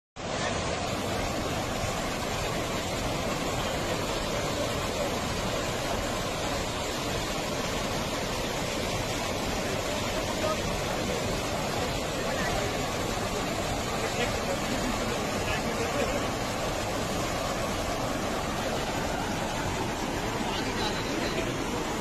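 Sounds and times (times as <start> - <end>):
river water rushing: 0.2 - 22.0.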